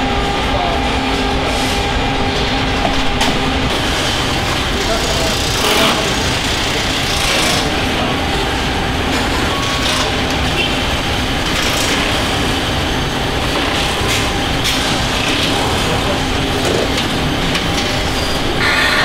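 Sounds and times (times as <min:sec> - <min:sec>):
low machinery rumble and hum: 0:00.0 - 0:19.0.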